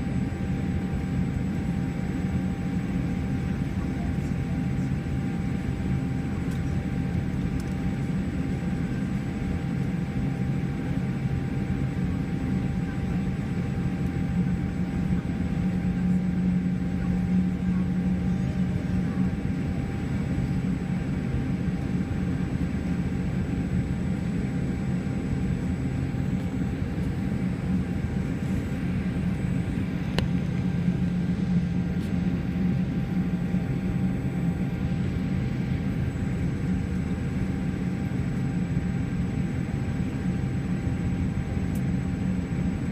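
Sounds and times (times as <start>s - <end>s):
airliner cabin rumble: 0.0s - 42.9s
jet engines low drone: 0.0s - 42.9s.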